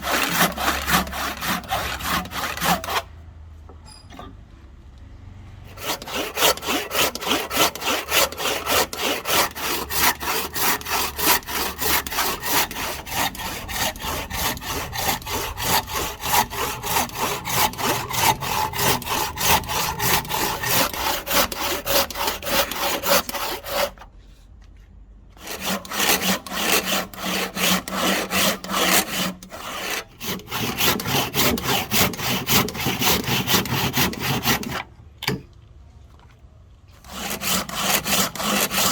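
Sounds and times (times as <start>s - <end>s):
hand saw cutting wood: 0.0s - 3.1s, 5.7s - 24.1s, 25.4s - 34.9s, 37.0s - 38.9s.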